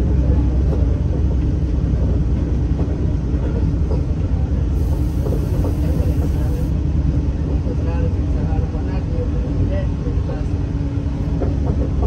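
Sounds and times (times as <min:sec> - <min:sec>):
train rumble from inside carriage: 0:00.0 - 0:12.0.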